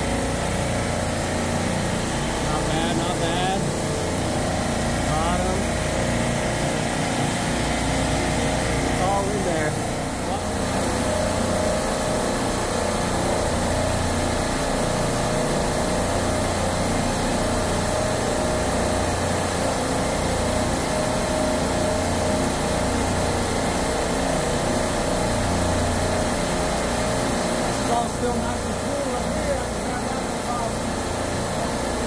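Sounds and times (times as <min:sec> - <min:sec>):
refrigeration compressors humming: 0:00.0 - 0:32.0.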